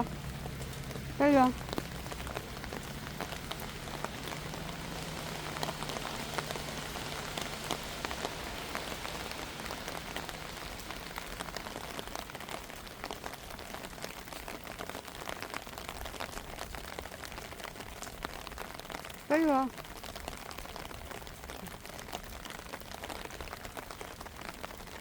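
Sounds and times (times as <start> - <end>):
raindrops tapping close by: 0.0 - 25.0
steady rain falling: 0.0 - 25.0.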